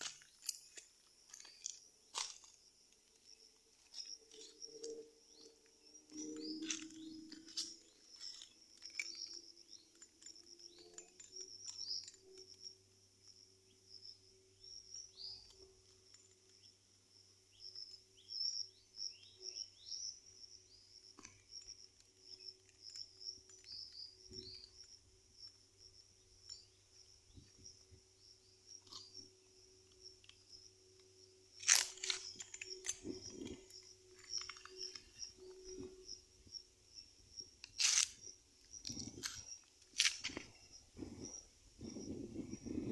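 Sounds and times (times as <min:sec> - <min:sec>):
faint birds chirping: 0:00.0 - 0:42.9.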